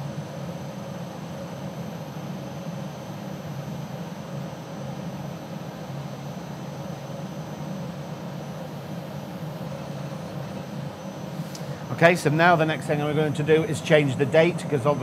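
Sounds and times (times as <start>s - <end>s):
cooling fans whirring: 0.0s - 15.0s
faint high steady whine: 0.0s - 15.0s
spinning disk drive: 0.0s - 15.0s.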